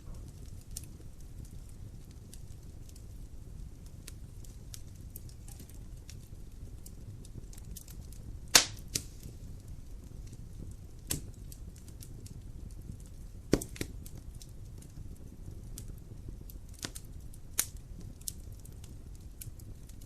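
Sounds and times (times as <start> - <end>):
fire popping: 0.0 - 20.0
low steady rumble: 0.0 - 20.0
wood fire crackling: 0.0 - 20.0.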